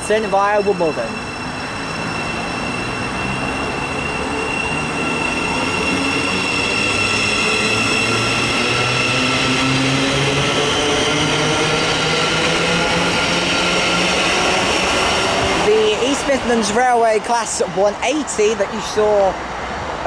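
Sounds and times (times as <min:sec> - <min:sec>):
traction motors whining: 0:00.0 - 0:17.6
electric train accelerating: 0:00.0 - 0:18.7.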